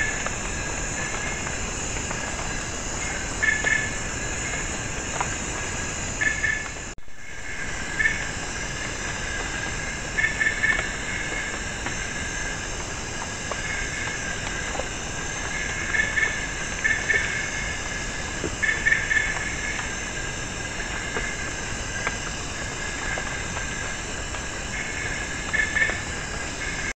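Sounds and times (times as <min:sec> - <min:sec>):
insect buzzing calls: 0:00.0 - 0:26.9
insects shrill hiss: 0:00.0 - 0:26.9.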